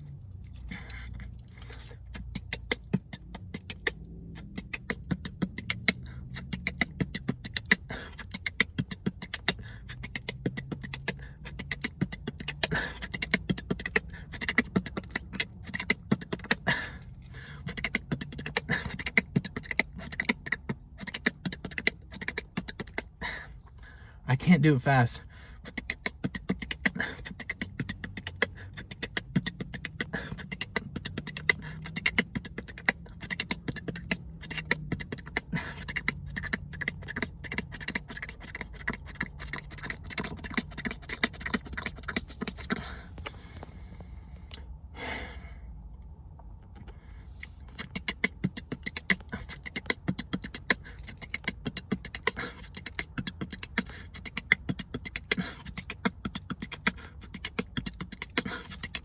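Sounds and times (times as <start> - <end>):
man beatboxing: 2.1 - 16.8, 17.6 - 23.2, 24.3 - 42.9, 47.7 - 59.0.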